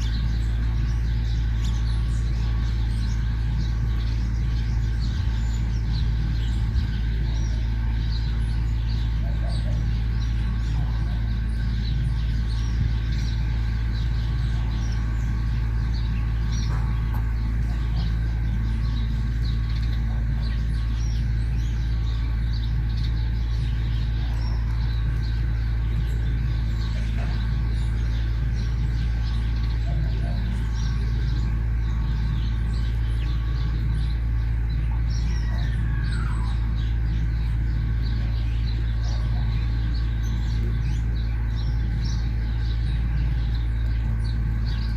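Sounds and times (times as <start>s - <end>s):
small birds chirping: 0.0s - 44.9s
steady low rumble: 0.0s - 44.9s.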